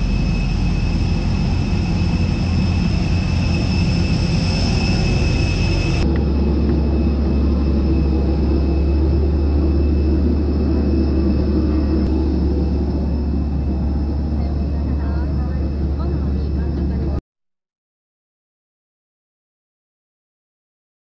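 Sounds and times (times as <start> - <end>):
jet airliner rumble and whine: 0.0 - 17.2.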